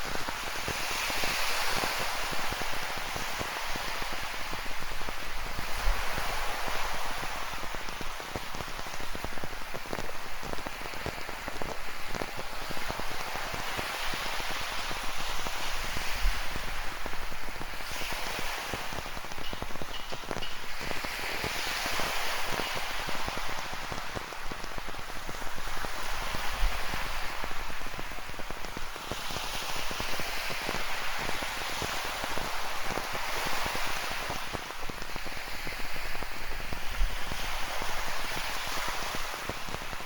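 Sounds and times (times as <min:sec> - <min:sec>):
waves breaking on rocky shore: 0:00.0 - 0:40.0
rain pattering: 0:01.6 - 0:40.0.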